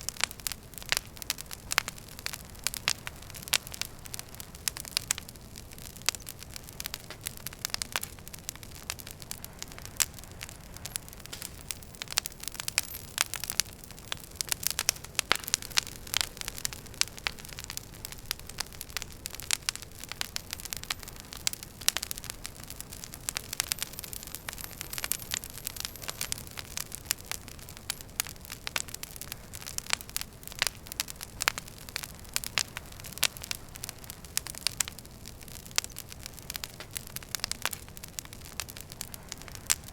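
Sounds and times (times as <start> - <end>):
fire crackling pops and snaps: 0.0 - 39.9
low rumble of flames: 0.0 - 39.9.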